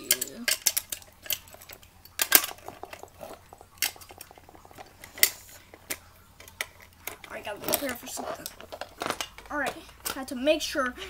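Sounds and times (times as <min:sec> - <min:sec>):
toy cars clacking together: 0:00.0 - 0:10.4.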